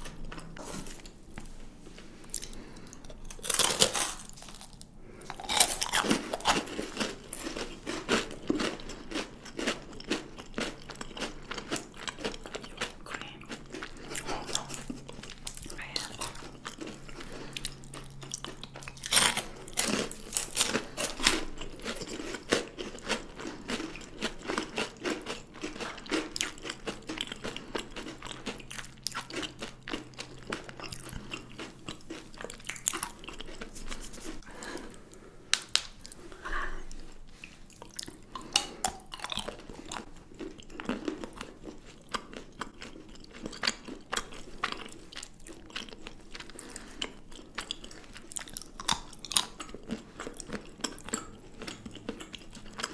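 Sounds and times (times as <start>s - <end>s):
chocolate being bitten and chewed: 0.0s - 52.9s.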